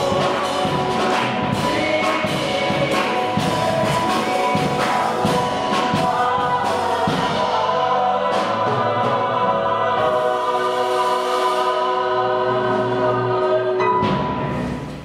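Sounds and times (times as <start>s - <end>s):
stage band of keyboard and bass: 0.0s - 15.0s.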